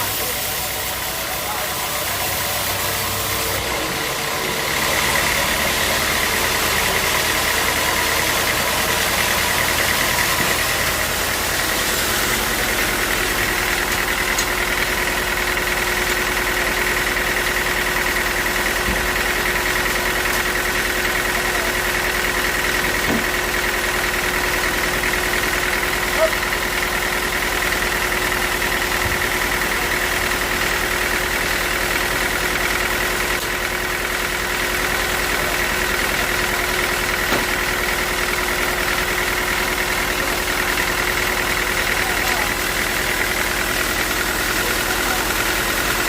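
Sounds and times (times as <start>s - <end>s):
sawmill machine drone and whine: 0.0s - 46.0s.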